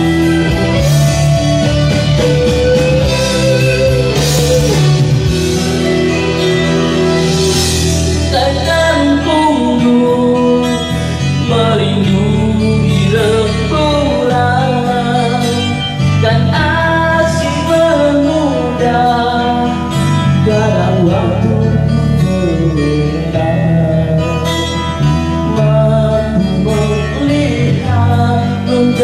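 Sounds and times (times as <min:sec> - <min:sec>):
bass line: 0:00.0 - 0:29.0
guitar music: 0:00.0 - 0:29.0
man singing into microphone: 0:00.0 - 0:29.0.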